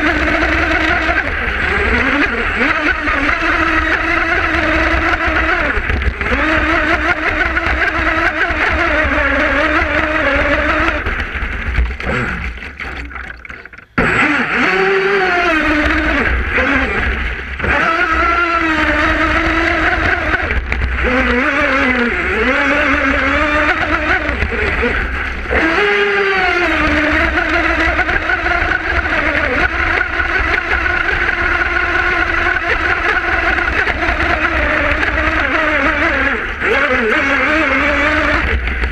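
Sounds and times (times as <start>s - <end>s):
electric boat motor whining: 0.0s - 38.9s.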